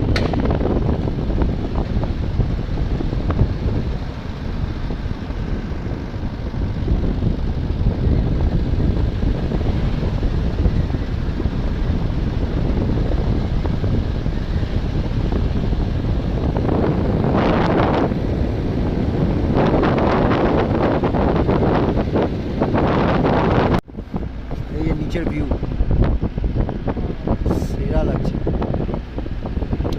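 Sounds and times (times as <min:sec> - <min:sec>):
car engine and road rumble: 0:00.0 - 0:29.9
wind buffeting microphone: 0:00.0 - 0:29.9.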